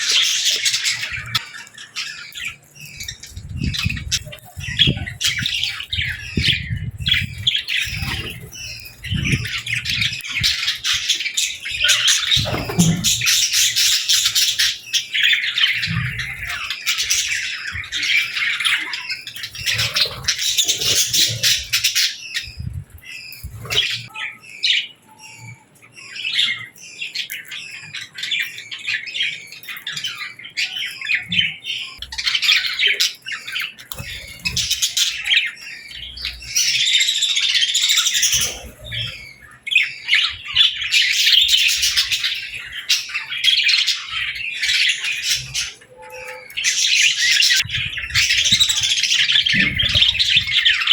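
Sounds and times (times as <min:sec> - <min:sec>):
birds chirping and squawking: 0:00.0 - 0:50.9.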